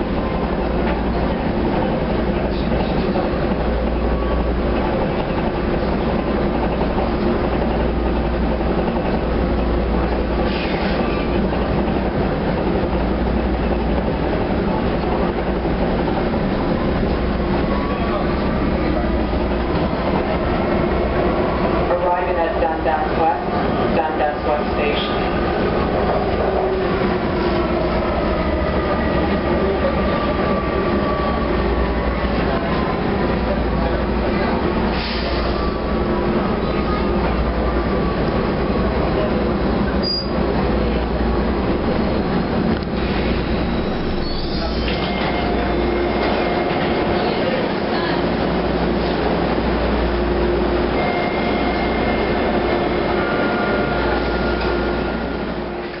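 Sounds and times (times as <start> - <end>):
subway car rumble and rush: 0.0 - 56.0.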